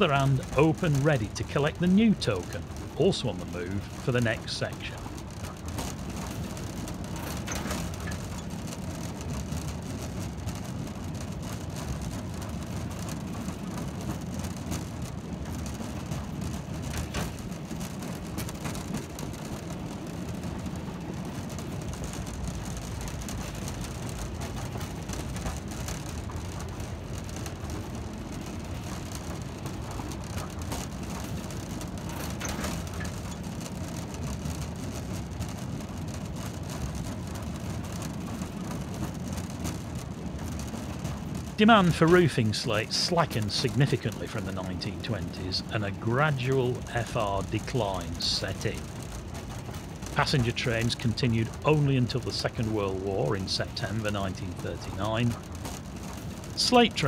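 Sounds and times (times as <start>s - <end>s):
train wheels rolling on rails: 0.0s - 57.0s.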